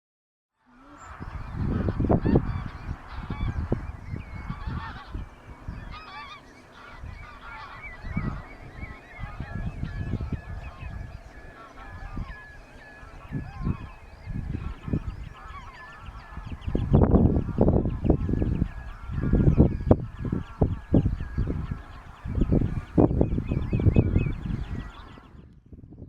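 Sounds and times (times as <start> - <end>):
geese honking: 0.7 - 25.3.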